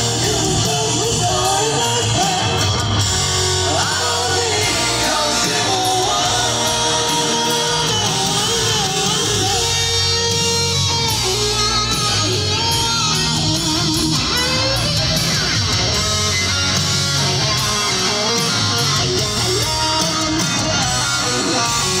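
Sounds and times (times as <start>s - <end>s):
electric guitar bending notes: 0.0s - 22.0s
live hard rock band: 0.0s - 22.0s.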